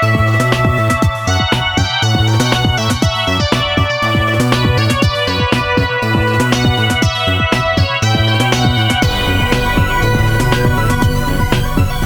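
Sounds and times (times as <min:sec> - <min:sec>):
electronic music: 0:00.0 - 0:12.0
kick drum beat: 0:00.0 - 0:12.0.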